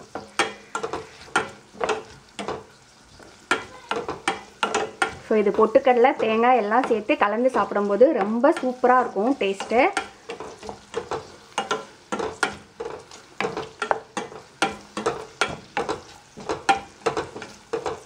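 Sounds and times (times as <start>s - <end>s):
faint sizzle: 0.0s - 18.0s
wooden spoon scraping metal pan: 0.0s - 18.0s.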